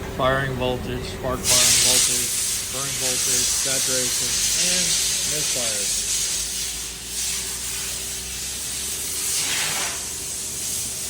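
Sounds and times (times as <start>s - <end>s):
even hiss: 1.4s - 11.0s.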